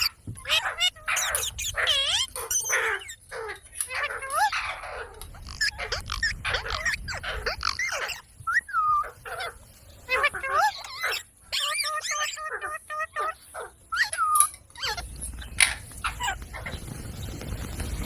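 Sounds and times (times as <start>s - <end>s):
parrot squawking: 0.0s - 16.8s.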